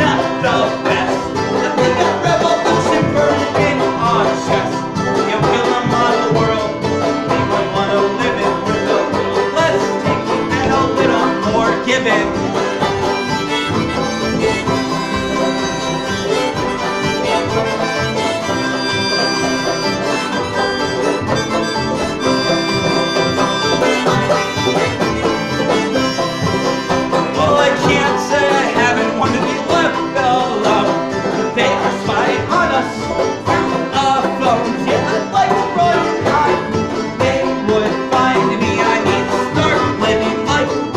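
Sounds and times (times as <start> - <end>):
banjo picking: 0.0 - 40.9
bluegrass string band playing: 0.0 - 40.9
mandolin picking: 0.0 - 40.9.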